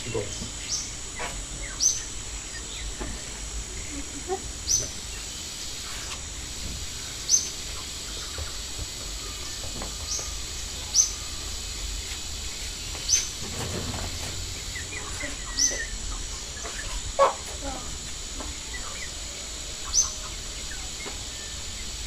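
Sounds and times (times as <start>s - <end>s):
birds chirping: 0.0s - 22.0s
faint high whine: 0.0s - 22.0s.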